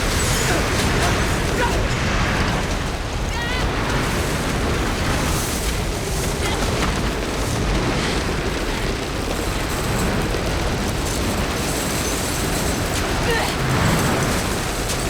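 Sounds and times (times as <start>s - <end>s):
explosion rumble with hiss: 0.0s - 15.0s.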